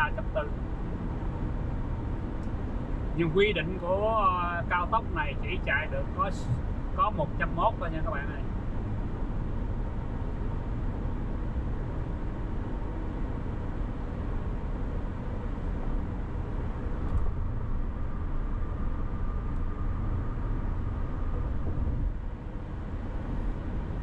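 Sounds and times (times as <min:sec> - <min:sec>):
car road and tyre noise: 0:00.0 - 0:24.0.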